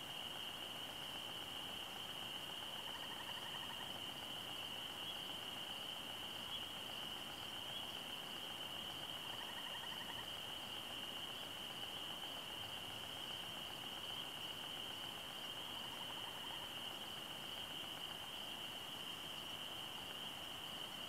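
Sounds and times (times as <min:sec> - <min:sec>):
high-pitched insect chorus: 0:00.0 - 0:21.0
low insect trills: 0:00.0 - 0:21.0.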